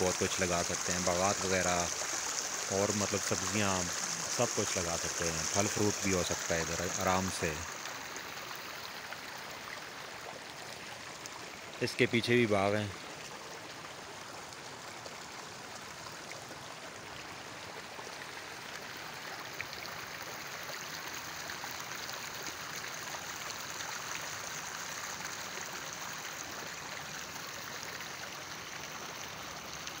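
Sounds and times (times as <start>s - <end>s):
river flowing over stones: 0.0s - 30.0s.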